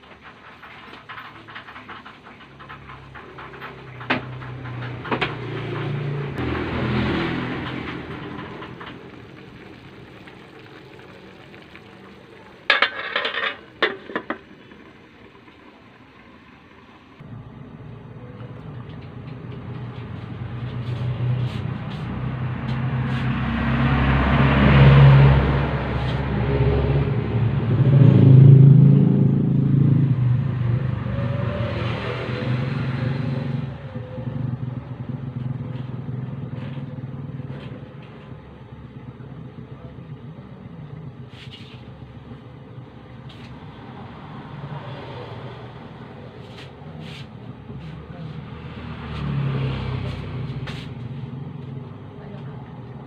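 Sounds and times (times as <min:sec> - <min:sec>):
passing vehicle engines rumbling: 0:00.0 - 0:13.6, 0:17.1 - 0:53.0.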